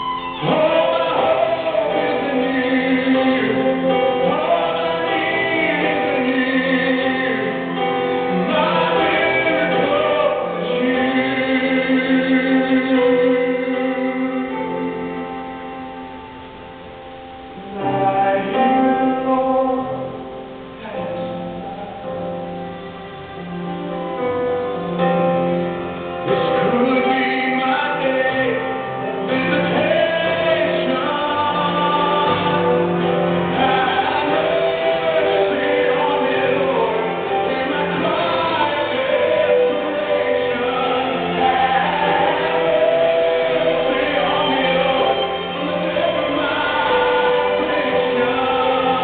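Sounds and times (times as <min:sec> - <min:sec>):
gospel voices singing with backing: 0:00.0 - 0:16.6, 0:17.4 - 0:49.0.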